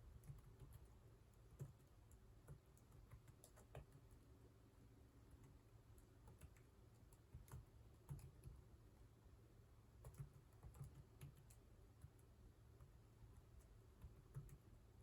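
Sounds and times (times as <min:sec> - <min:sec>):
computer keyboard typing: 0:00.1 - 0:04.2, 0:05.4 - 0:08.6, 0:10.0 - 0:14.7.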